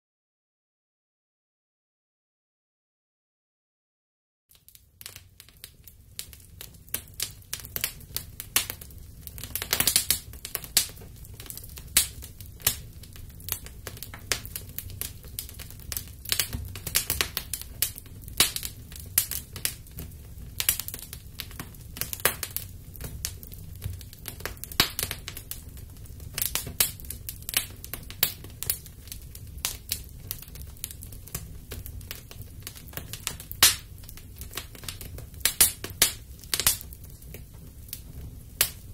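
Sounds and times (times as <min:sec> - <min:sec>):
fire crackling and popping: 0:04.5 - 0:38.9.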